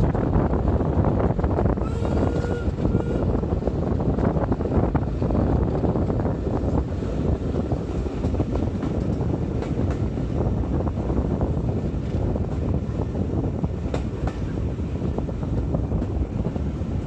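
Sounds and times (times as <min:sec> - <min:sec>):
steam train rumbling: 0:00.0 - 0:17.0
train clattering and knocking: 0:00.0 - 0:17.0
wind buffeting microphone: 0:00.0 - 0:17.0.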